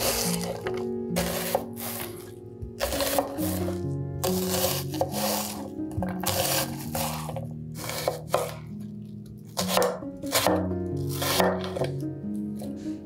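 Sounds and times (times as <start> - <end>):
rasping food preparation strokes: 0.0 - 8.7, 9.6 - 12.0
soft background music: 0.0 - 13.0.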